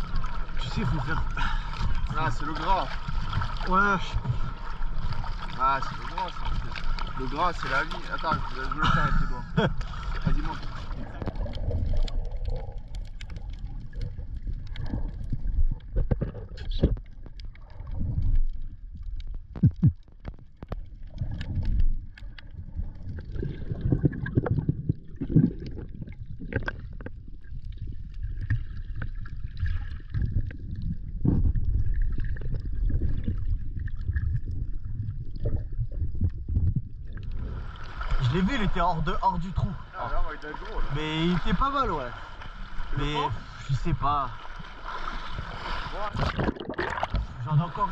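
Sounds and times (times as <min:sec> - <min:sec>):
bubbling: 0:00.0 - 0:47.9
underwater rumble and rushing: 0:00.0 - 0:47.9.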